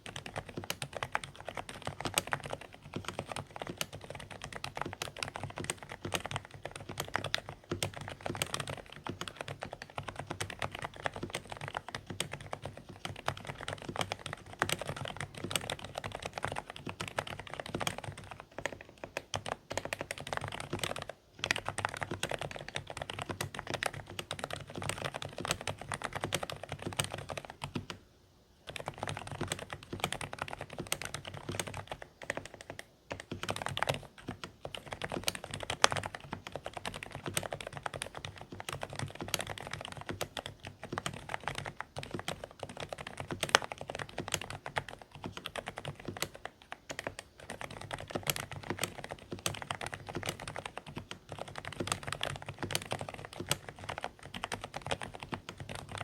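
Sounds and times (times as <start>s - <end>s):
fast typing on keyboard: 0.0s - 28.0s, 28.6s - 56.0s.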